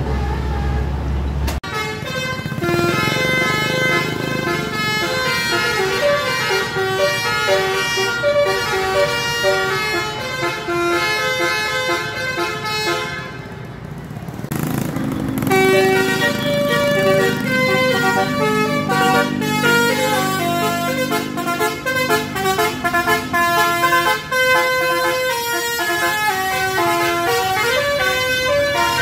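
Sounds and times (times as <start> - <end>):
musical air horn tune: 1.6 - 13.3, 15.5 - 29.0.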